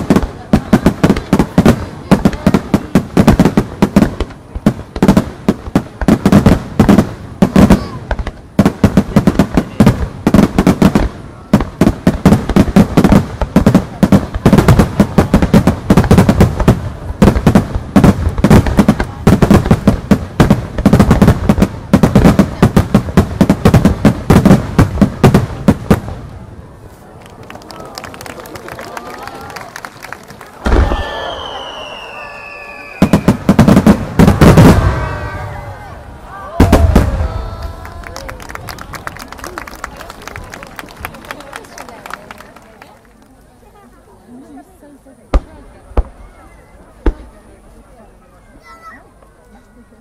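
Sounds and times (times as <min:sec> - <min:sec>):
fireworks bursting: 0:00.0 - 0:48.2.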